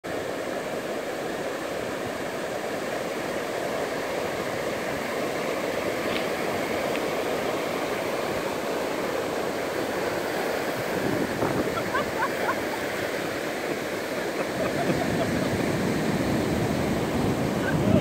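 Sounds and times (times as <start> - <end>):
ocean surf breaking: 0.1 - 18.0.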